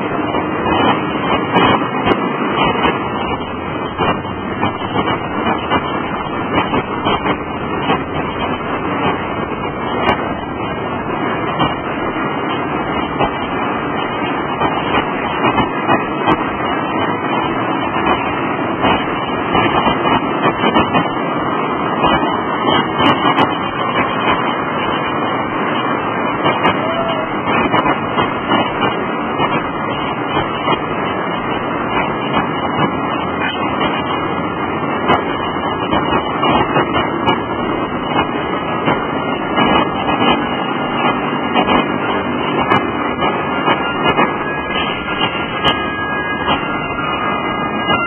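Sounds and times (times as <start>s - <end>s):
busy road traffic: 0.0s - 48.0s
irregular knocks and rumbles: 0.2s - 48.0s.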